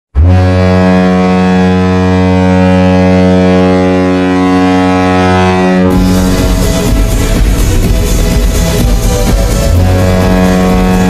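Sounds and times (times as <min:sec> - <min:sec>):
goal horn blast: 0:00.1 - 0:11.0.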